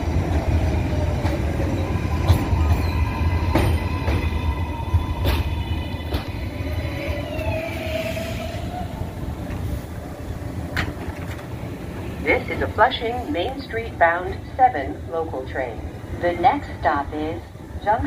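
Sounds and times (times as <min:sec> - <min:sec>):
subway train wheel rumble: 0:00.0 - 0:18.0.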